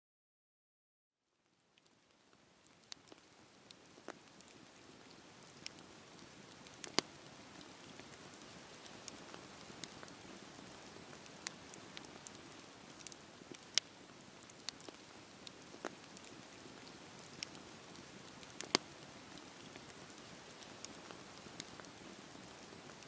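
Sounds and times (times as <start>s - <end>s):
campfire crackling and popping: 1.5s - 23.0s.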